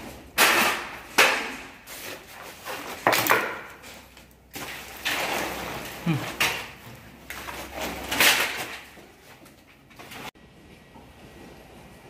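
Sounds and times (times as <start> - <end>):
sharp knocks and clatter: 0.0 - 10.3.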